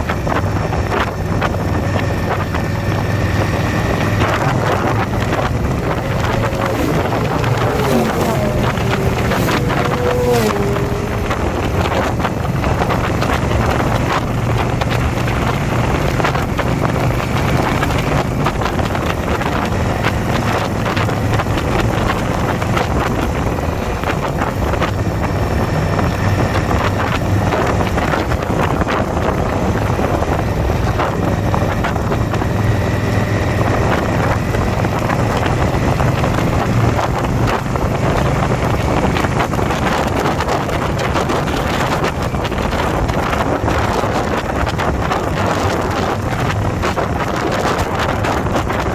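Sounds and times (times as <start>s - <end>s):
motorcycle engine running: 0.0s - 48.9s
wind noise on microphone: 0.0s - 48.9s.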